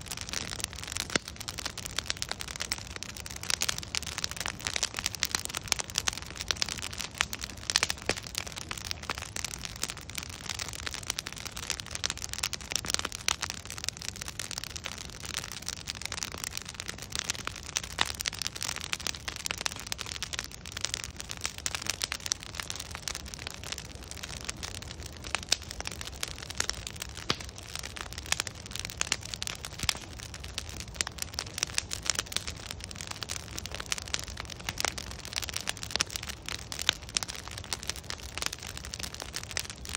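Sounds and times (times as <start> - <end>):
bonfire crackling and popping: 0.0 - 39.9
low rush of flame: 0.0 - 39.9.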